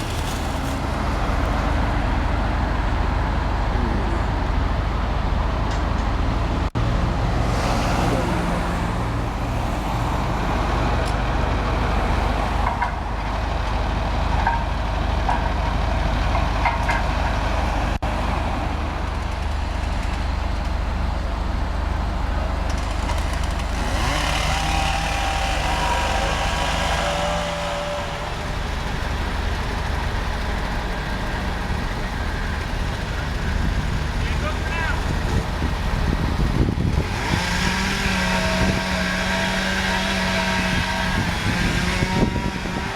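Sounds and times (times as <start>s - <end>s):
traffic rumble: 0.0s - 42.9s.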